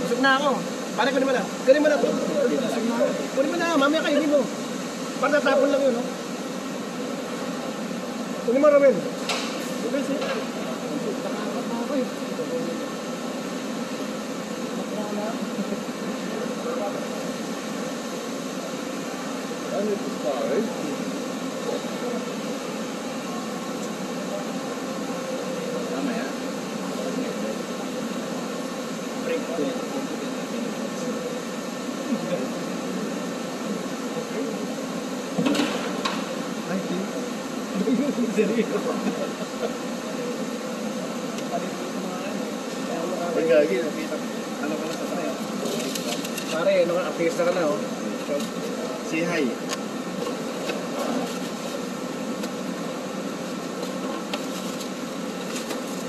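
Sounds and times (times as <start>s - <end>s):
faint voices: 0.0s - 56.0s
machine hum and hiss: 0.0s - 56.0s.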